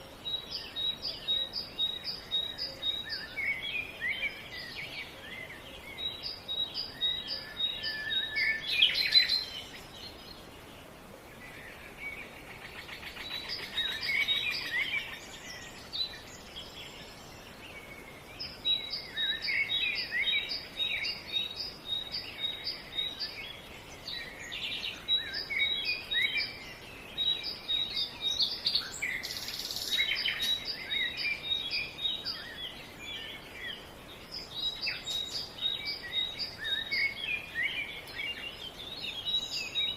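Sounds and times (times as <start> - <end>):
birds chirping: 0.0 - 39.9
faint steady hiss: 0.0 - 39.9.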